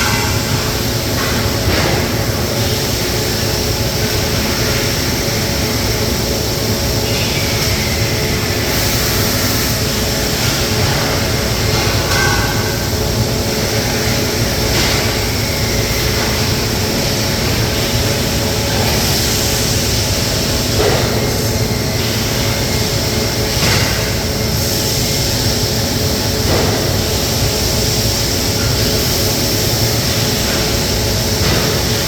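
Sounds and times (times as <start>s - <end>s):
industrial machinery drone: 0.0s - 32.0s.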